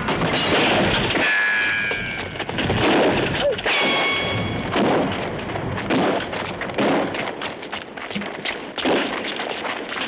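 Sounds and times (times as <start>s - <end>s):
heavier bangs: 0.0s - 9.3s
sharp bangs and crackles: 0.0s - 10.0s.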